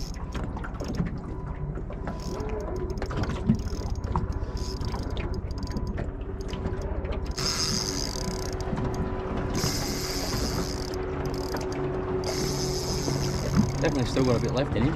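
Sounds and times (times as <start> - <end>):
fishing reel gears ticking: 0.0 - 0.2, 2.1 - 14.6.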